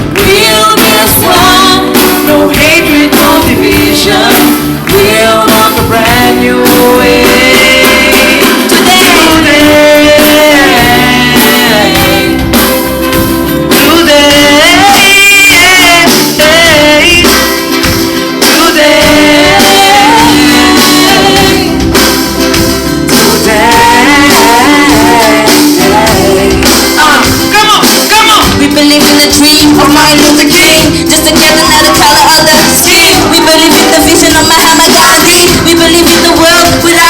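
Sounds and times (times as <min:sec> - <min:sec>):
band with drums: 0:00.0 - 0:37.0
person singing pop song: 0:00.0 - 0:37.0.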